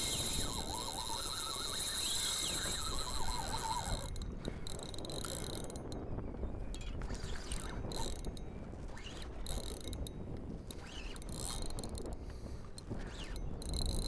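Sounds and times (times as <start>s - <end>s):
fishing reel gears whirring: 0.0s - 6.0s, 6.7s - 14.0s
reel drag giving line: 0.0s - 14.0s.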